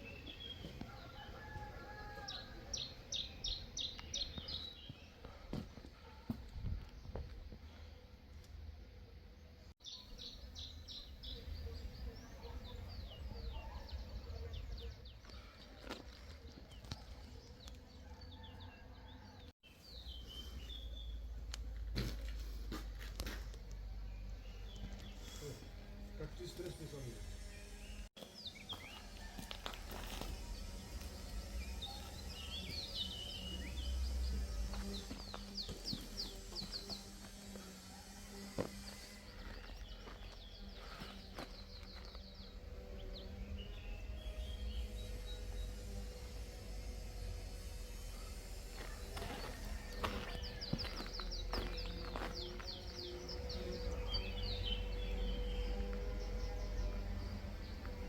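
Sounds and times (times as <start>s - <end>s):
songbird chirping: 0.0s - 6.2s, 8.4s - 22.4s, 23.2s - 58.0s.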